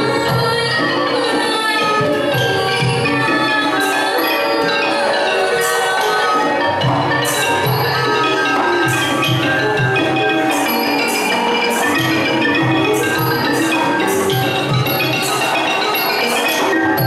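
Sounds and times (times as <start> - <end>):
xylophones and gongs playing melody: 0.0 - 17.0.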